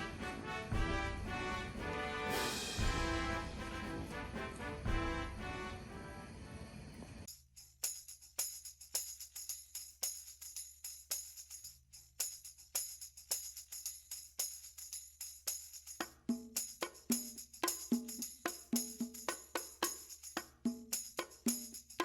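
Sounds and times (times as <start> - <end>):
jingling percussion rhythm: 0.0 - 5.9, 7.3 - 22.0.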